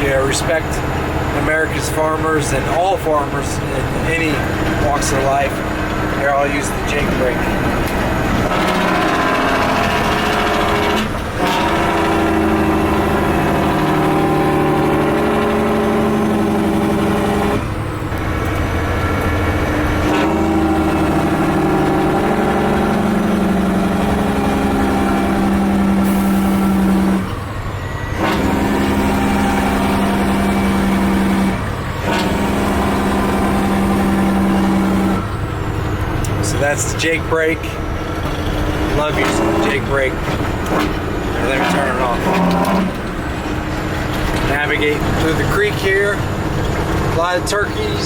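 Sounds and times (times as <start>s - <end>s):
truck engine brake drone: 0.0s - 48.0s.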